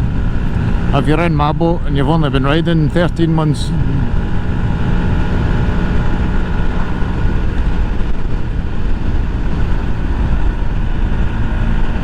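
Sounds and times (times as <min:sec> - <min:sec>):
motorcycle engine running: 0:00.0 - 0:12.0
road noise: 0:00.0 - 0:12.0
wind noise: 0:00.0 - 0:12.0.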